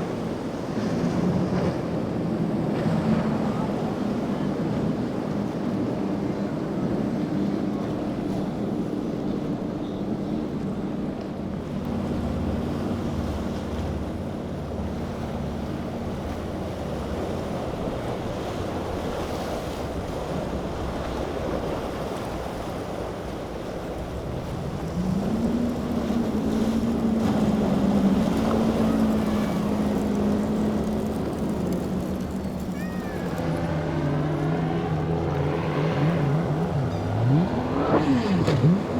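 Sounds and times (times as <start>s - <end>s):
motorboat engines running: 0.0s - 38.9s
waves: 0.0s - 38.9s.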